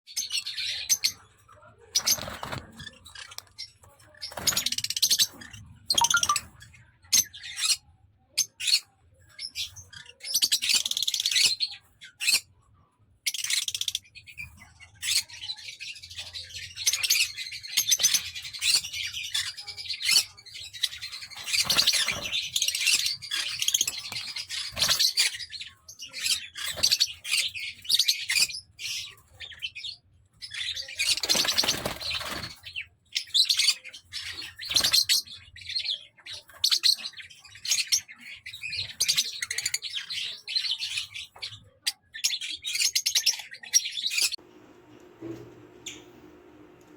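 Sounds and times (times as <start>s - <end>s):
parrots chirping and chattering: 0.1s - 44.4s, 45.8s - 46.1s.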